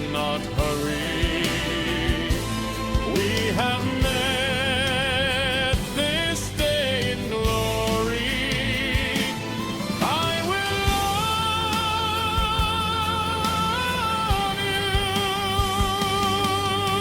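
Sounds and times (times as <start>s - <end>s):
drums: 0.0s - 17.0s
pop song with vibrato melody: 0.0s - 17.0s.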